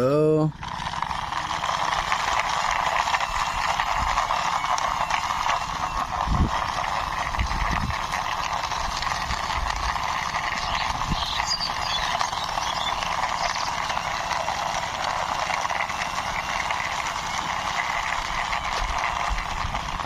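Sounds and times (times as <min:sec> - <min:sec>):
toy car wheels rolling: 0:00.6 - 0:20.0.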